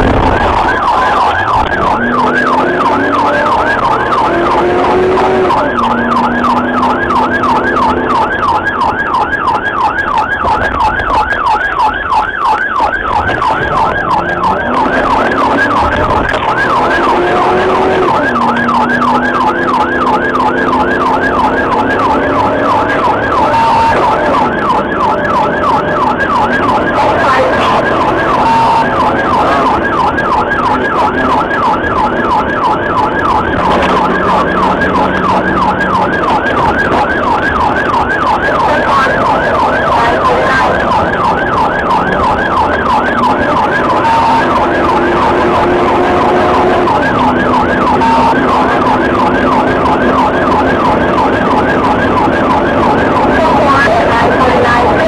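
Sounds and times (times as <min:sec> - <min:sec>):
police siren yelp: 0:00.0 - 0:55.0
road and engine noise: 0:00.0 - 0:55.0.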